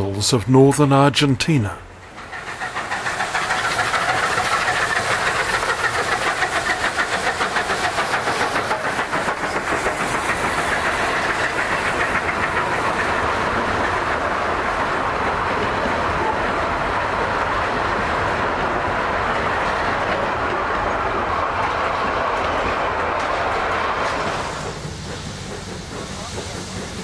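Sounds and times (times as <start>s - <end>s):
wagon wheels rumbling on rail: 1.5s - 27.0s
steam locomotive exhaust chuffing: 1.8s - 27.0s.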